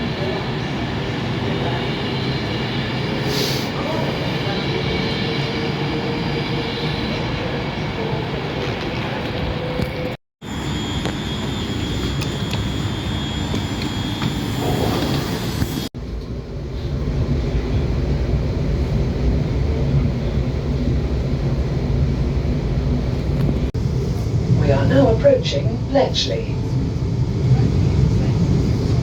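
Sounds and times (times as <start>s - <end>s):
train rumble inside carriage: 0.0s - 29.0s.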